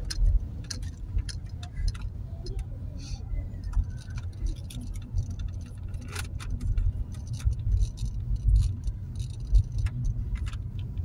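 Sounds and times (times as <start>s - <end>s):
car rumble from inside: 0.0s - 11.0s
light rattling and jingling clicks: 0.0s - 11.0s.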